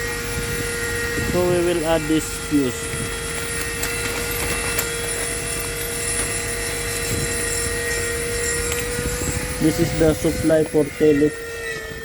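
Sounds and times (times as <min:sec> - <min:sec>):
constant tone: 0:00.0 - 0:12.0
machine hum and rumble: 0:00.0 - 0:12.0.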